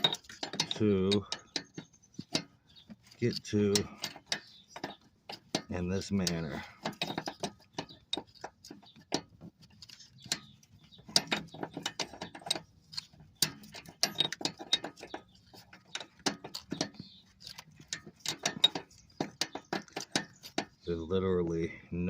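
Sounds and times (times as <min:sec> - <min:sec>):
wrench clicking on metal: 0:00.0 - 0:20.8.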